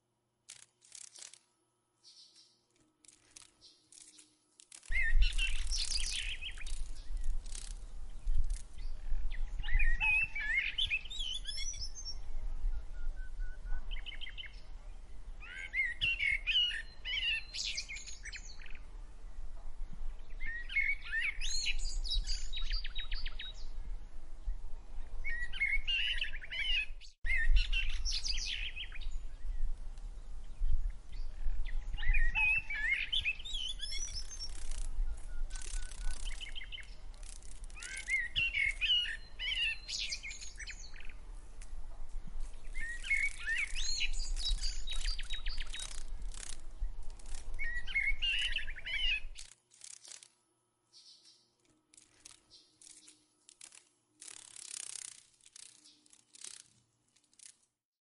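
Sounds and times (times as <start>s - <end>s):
songbirds chirping: 1.9s - 57.5s.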